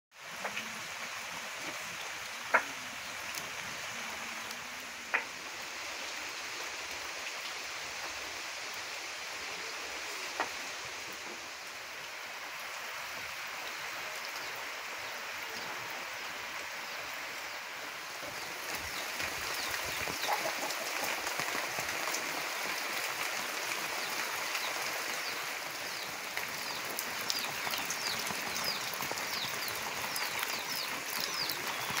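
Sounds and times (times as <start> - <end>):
steady rain falling: 0.1 - 32.0
running water: 0.2 - 32.0.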